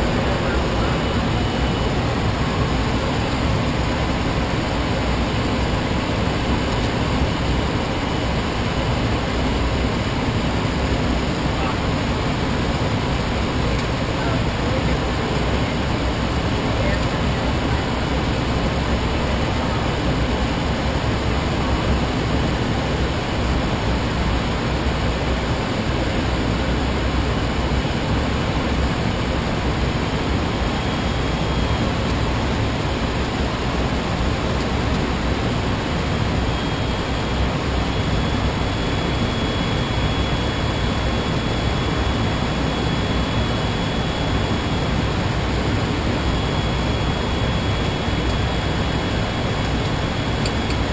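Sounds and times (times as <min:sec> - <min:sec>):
airflow and jet engines rushing: 0:00.0 - 0:50.9
faint high whine: 0:00.0 - 0:50.9.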